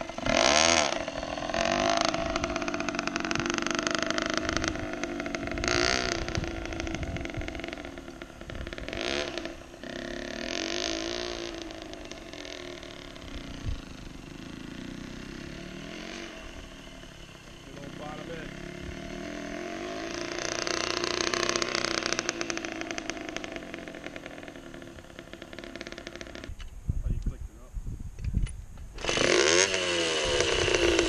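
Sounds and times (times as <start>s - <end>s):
dirt bike engine revving: 0.0s - 26.6s, 28.9s - 31.0s.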